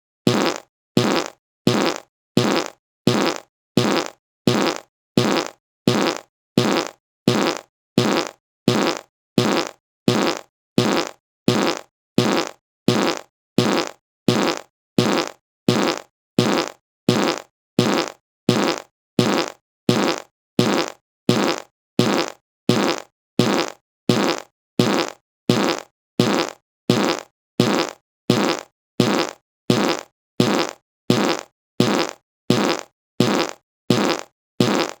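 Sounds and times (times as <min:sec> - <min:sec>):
fart sound effect: 0:00.3 - 0:35.0.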